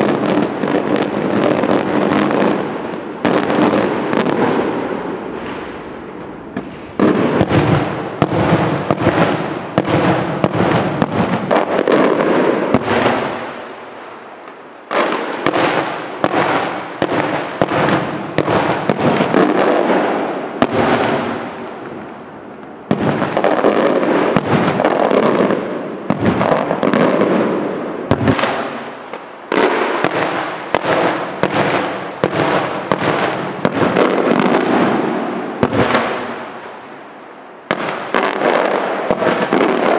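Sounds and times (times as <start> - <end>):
fireworks rapid bangs: 0.0 - 13.8, 14.8 - 22.1, 22.8 - 36.9, 37.6 - 39.9.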